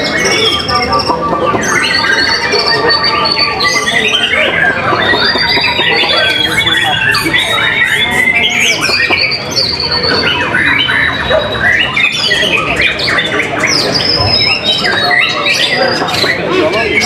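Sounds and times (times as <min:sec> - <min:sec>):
birds singing loudly: 0:00.0 - 0:17.0.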